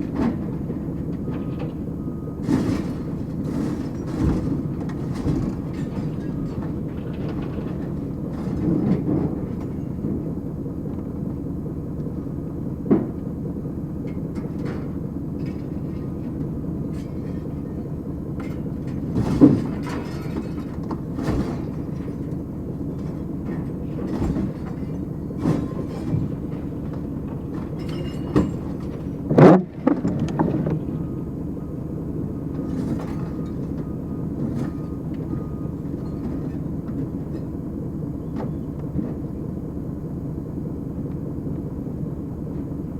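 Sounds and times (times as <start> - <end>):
heavy machinery engine running: 0.0 - 42.9.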